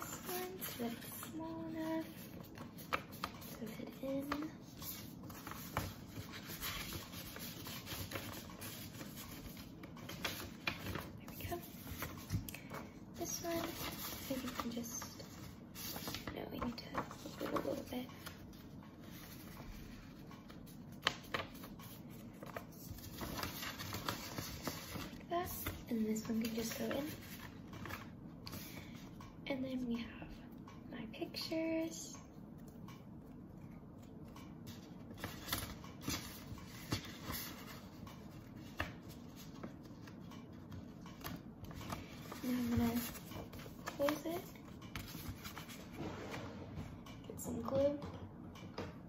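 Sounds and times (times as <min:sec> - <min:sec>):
paper crackles: 0:00.0 - 0:28.8, 0:34.7 - 0:46.0
paper rustling: 0:00.0 - 0:28.8, 0:34.7 - 0:46.6.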